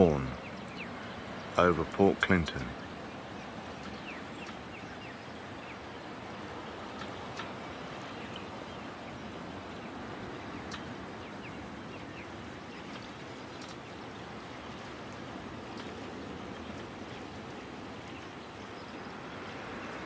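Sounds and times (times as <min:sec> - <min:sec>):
faint bird chirps: 0:00.0 - 0:20.0
steady outdoor hiss: 0:00.0 - 0:20.0.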